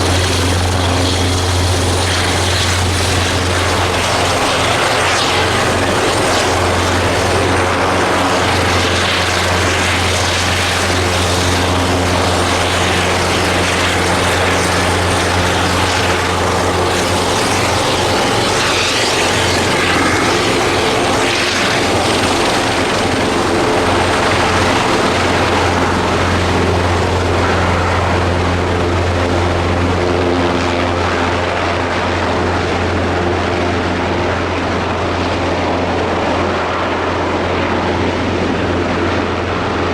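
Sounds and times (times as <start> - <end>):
helicopter rotor thrum: 0.0 - 39.9
turbine roar: 0.0 - 39.9.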